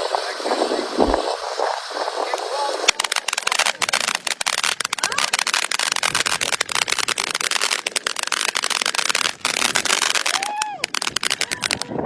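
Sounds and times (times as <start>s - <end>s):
firework fountain crackling: 0.0s - 12.0s.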